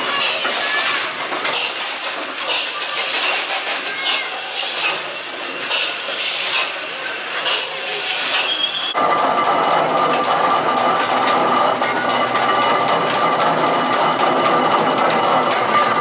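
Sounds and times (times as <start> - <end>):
steam locomotive chugging: 0.0 - 16.0.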